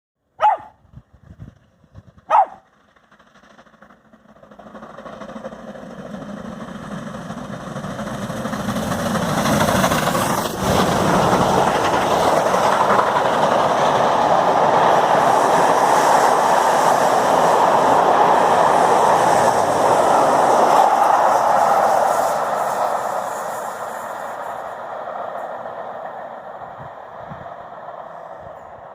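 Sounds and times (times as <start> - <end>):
rolling train wheels: 0.4 - 28.9
steam locomotive passing: 0.4 - 28.9.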